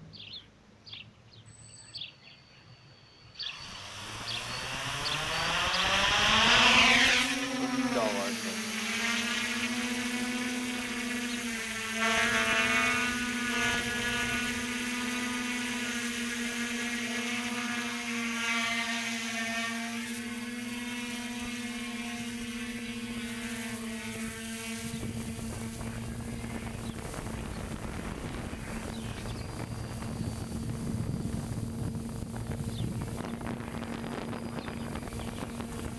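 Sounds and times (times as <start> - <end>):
drone propellers whining: 3.4 - 35.9.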